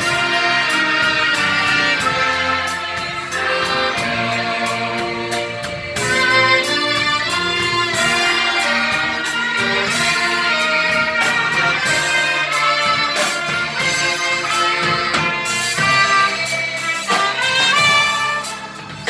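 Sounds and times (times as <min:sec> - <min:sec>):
orchestra playing a hymn: 0:00.0 - 0:19.0.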